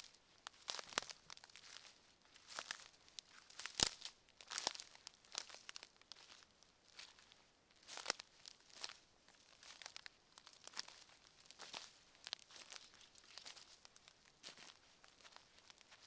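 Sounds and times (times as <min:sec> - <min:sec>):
footsteps crunching on forest floor: 0:00.0 - 0:16.0.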